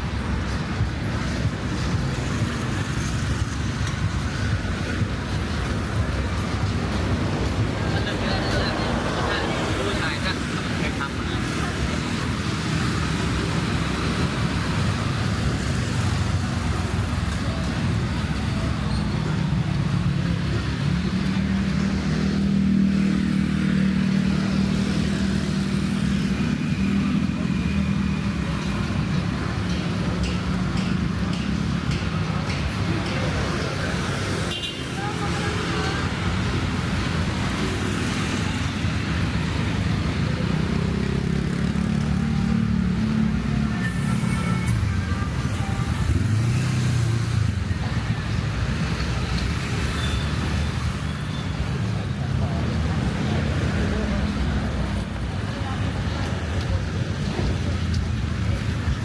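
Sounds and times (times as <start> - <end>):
street traffic: 0.0 - 59.0
vehicle engine humming nearby: 0.0 - 59.0.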